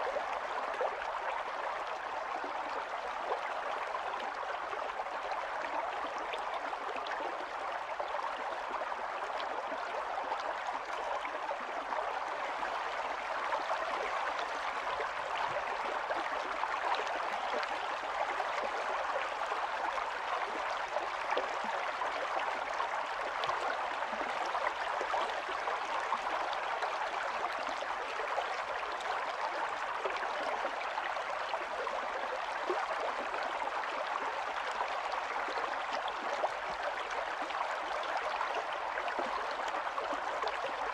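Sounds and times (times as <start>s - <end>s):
stream water over stones: 0.0s - 40.9s.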